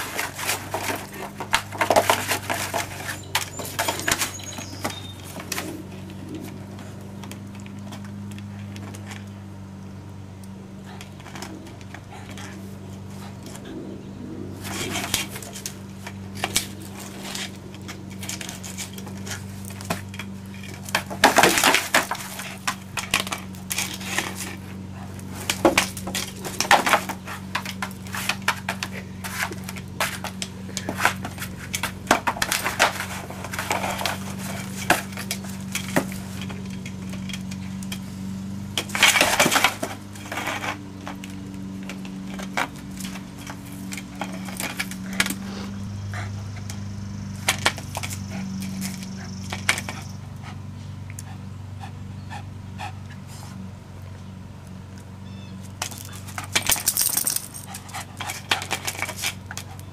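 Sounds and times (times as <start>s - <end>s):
plastic scraping on concrete: 0.0s - 51.4s, 54.9s - 59.9s
low hum: 0.0s - 59.9s.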